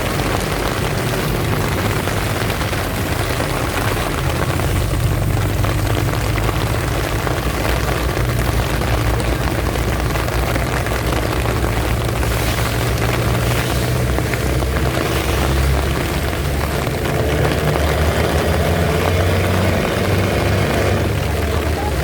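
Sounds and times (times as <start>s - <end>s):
heavy rain falling: 0.0s - 22.0s
vehicle moving on wet road: 0.0s - 22.0s.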